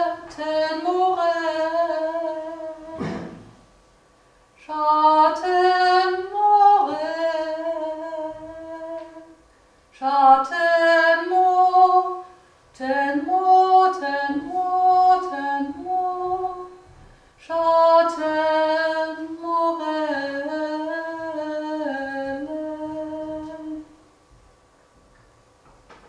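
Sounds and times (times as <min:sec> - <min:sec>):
woman singing unaccompanied: 0:00.0 - 0:03.3, 0:04.6 - 0:24.0.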